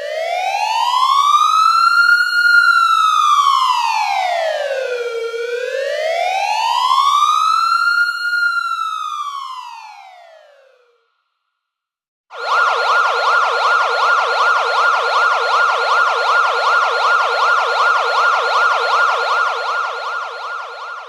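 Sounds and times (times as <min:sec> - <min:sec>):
emergency vehicle siren wailing: 0:00.0 - 0:10.9, 0:12.3 - 0:21.0.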